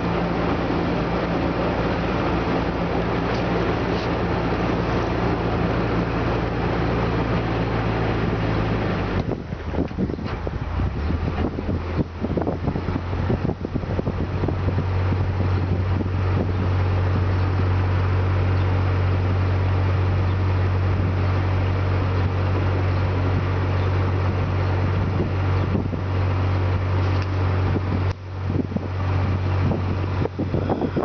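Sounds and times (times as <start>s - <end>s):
boat engine humming: 0.0s - 31.0s
wind noise on microphone: 0.0s - 31.0s.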